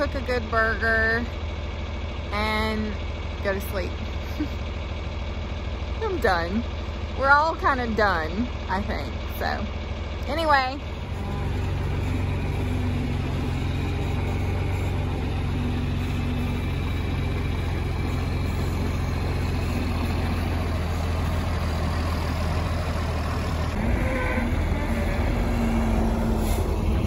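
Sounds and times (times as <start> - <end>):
tractor diesel engine idling: 0.0 - 27.0.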